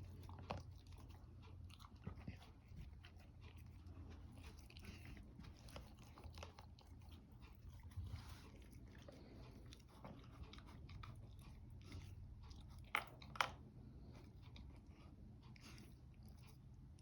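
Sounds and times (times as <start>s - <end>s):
dog crunching food: 0.0s - 16.8s.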